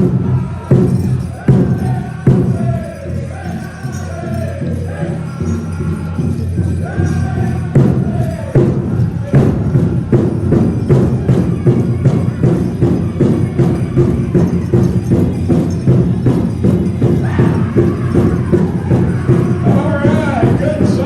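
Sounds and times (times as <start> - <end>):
drum steady beat: 0.0 - 21.0
voices singing: 0.0 - 21.0.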